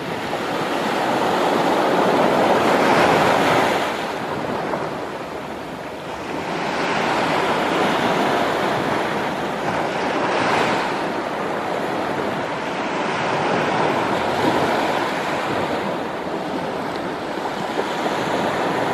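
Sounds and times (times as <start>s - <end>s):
small waves washing on shore: 0.0s - 18.9s.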